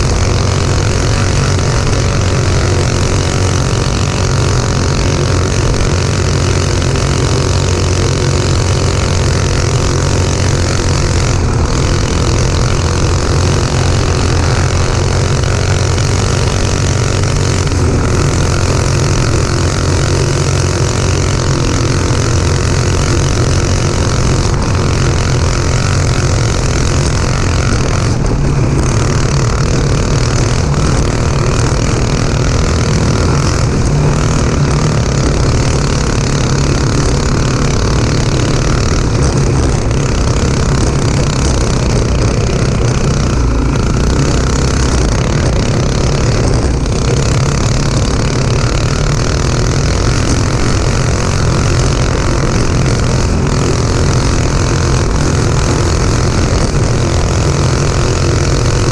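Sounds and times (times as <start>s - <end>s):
go-kart engine running: 0.0s - 58.9s.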